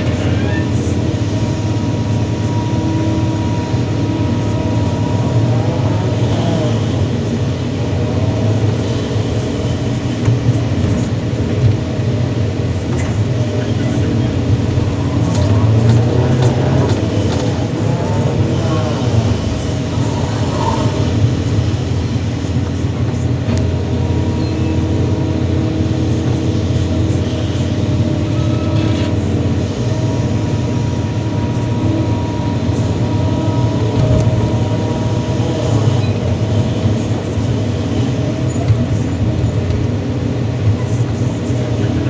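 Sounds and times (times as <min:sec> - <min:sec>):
excavator diesel engine rumble: 0:00.0 - 0:42.0
thin steady whine: 0:00.0 - 0:42.0.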